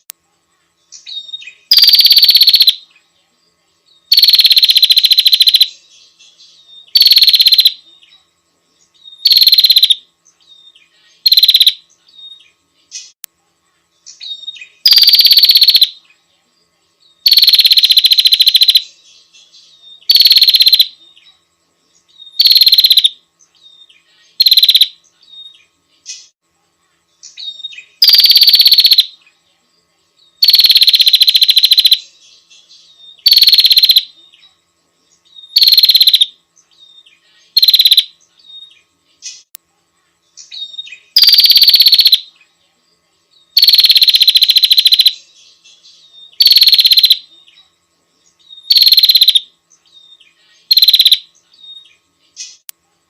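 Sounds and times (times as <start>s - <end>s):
bird buzzy trills: 0.0s - 16.3s, 17.0s - 52.7s.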